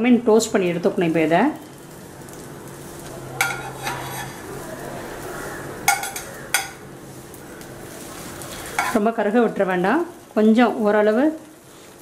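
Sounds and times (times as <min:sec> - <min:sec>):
faint sizzle of bread frying: 0:00.0 - 0:12.0.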